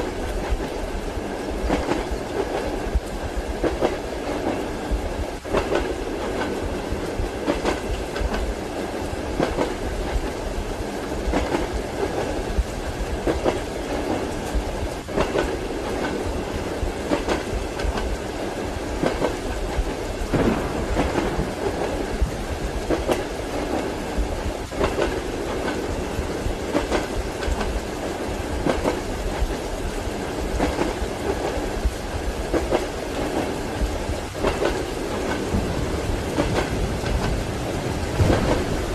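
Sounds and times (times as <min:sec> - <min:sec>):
railway carriage rumble: 0:00.0 - 0:38.9
rain hiss: 0:00.0 - 0:38.9
train wheels clacking: 0:00.0 - 0:38.9.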